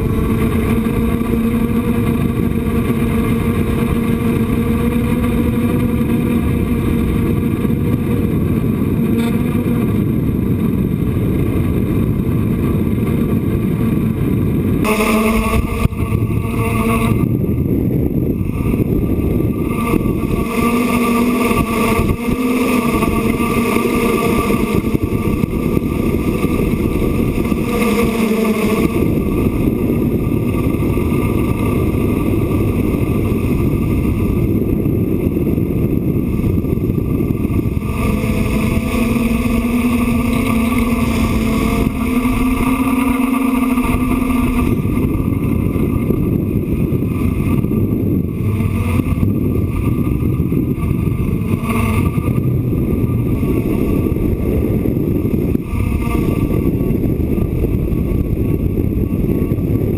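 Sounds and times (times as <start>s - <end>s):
drone motors and propellers whining: 0.0s - 59.9s
wind buffeting microphone: 0.0s - 59.9s.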